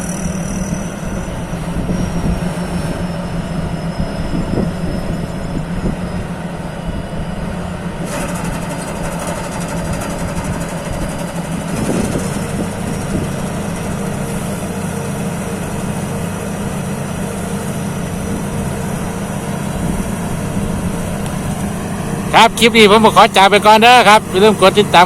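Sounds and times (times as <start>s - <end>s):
combine harvester engine hum: 0.0s - 25.0s
hissing machine noise: 0.0s - 25.0s.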